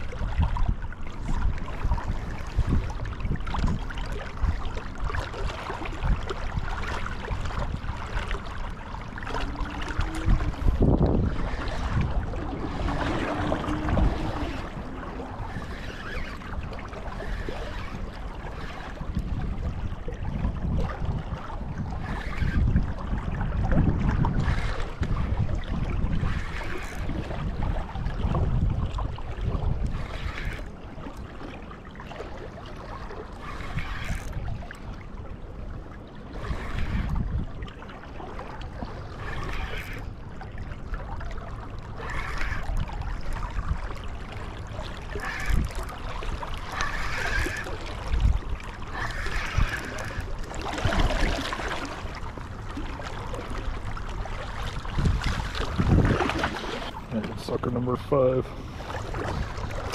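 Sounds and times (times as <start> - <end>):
wind buffeting microphone: 0.0 - 31.5, 33.0 - 59.9
river water flowing: 2.0 - 59.9.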